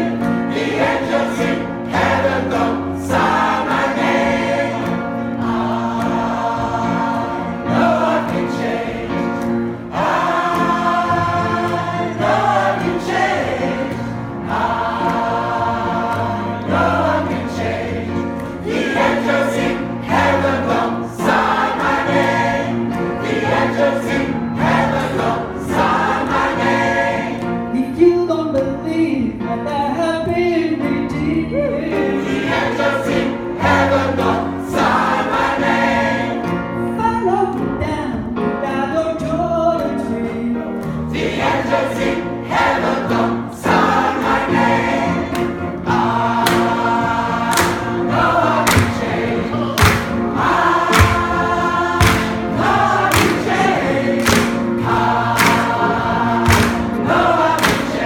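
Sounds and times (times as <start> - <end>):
gospel choir singing: 0.0 - 28.0, 31.8 - 36.9, 39.8 - 58.0
instrumental accompaniment: 0.0 - 28.2, 39.8 - 58.0.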